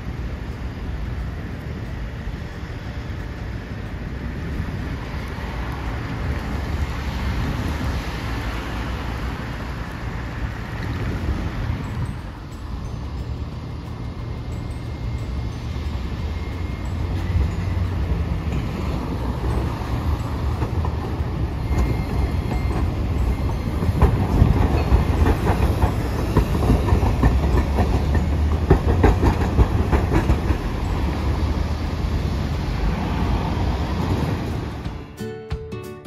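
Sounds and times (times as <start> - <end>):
tram running rumble: 0.0 - 35.6
tram wheel clacks: 0.0 - 35.8
road traffic: 0.0 - 36.0.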